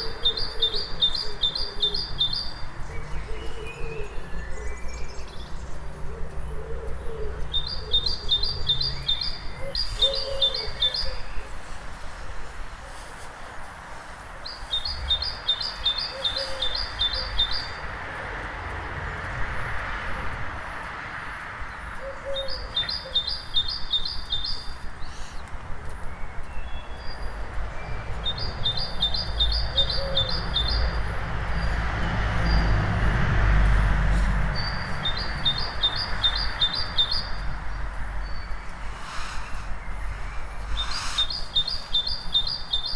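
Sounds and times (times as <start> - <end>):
other birds chirping: 0.0 - 13.2, 14.2 - 18.0, 21.7 - 42.9
low traffic rumble: 0.0 - 42.9.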